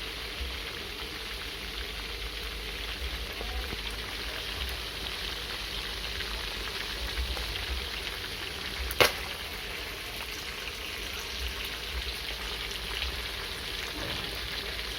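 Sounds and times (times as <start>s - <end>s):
meat sizzling in a pan: 0.0s - 14.9s.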